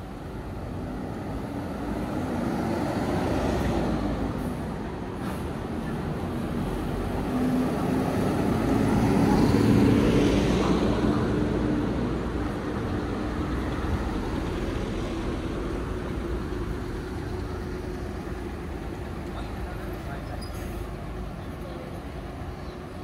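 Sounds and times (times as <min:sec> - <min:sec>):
street background noise: 0:00.0 - 0:23.0.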